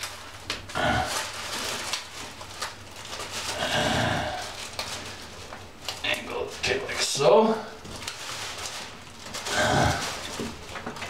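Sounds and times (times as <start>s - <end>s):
plastic sheeting rustling: 0.0s - 11.0s.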